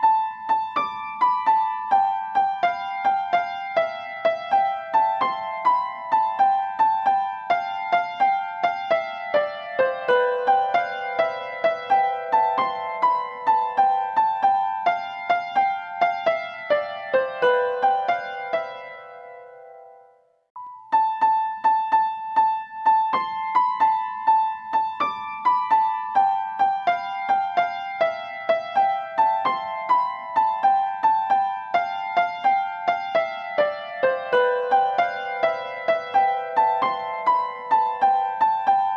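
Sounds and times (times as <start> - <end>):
gentle piano tune: 0.0 - 38.9.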